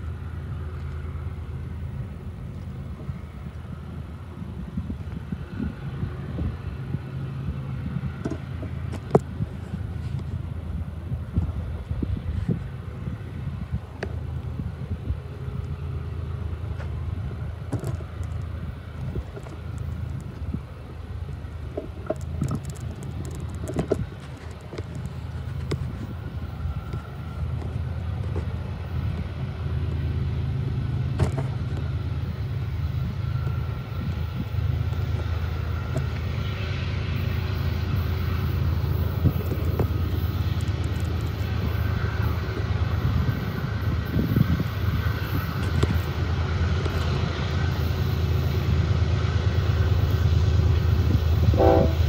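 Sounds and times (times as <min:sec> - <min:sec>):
locomotive engine rumble: 0:00.0 - 0:52.0.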